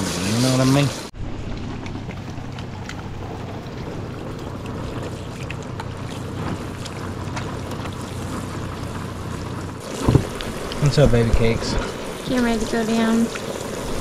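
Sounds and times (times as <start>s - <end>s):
steady rain falling: 0.0s - 14.0s
low steady hum: 1.0s - 14.0s
water drips and ticks: 1.4s - 14.0s.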